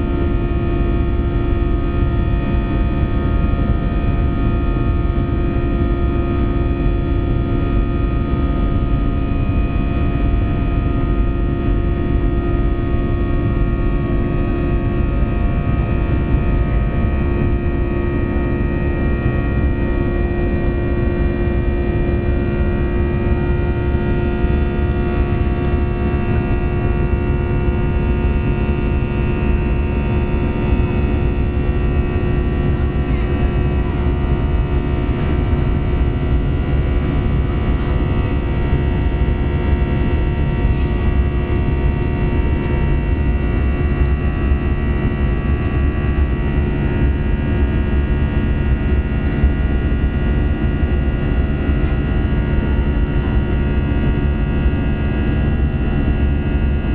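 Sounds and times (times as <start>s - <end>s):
airplane cabin drone: 0.0s - 56.9s.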